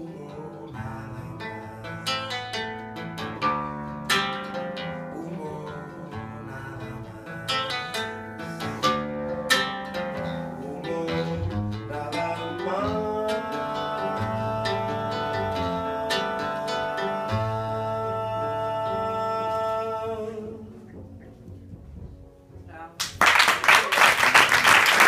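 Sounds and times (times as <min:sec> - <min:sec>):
acoustic guitar strumming: 0:00.0 - 0:22.8.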